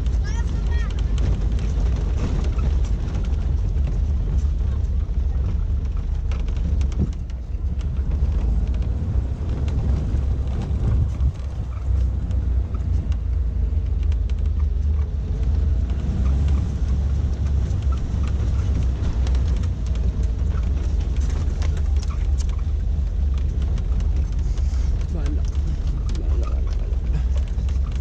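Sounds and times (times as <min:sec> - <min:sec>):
clicks and rattles: 0:00.0 - 0:28.0
engine and road rumble: 0:00.0 - 0:28.0.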